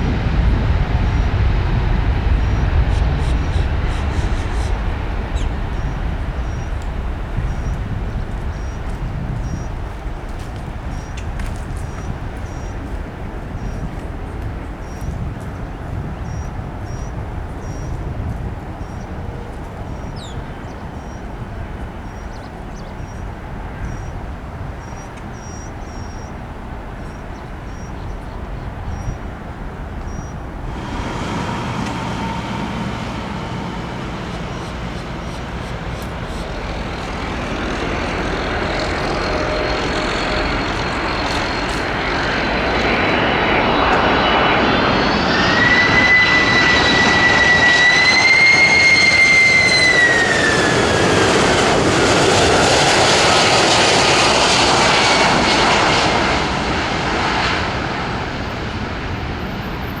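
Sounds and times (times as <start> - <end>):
high engine whine: 0.0 - 22.6, 30.0 - 60.0
jet engines roaring: 0.0 - 60.0.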